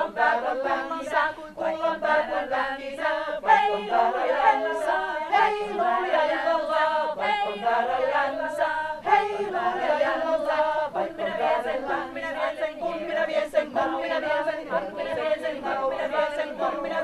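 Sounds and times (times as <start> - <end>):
women's choir singing a cappella: 0.0 - 17.0.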